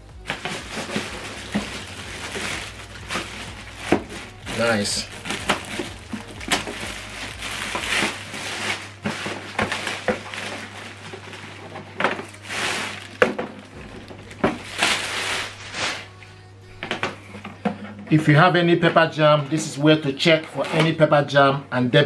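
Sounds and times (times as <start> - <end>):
plastic bag crinkling: 0.0 - 18.1.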